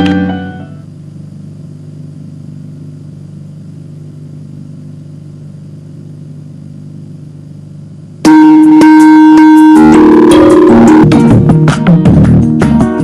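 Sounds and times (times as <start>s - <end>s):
low electrical hum: 0.0s - 12.6s.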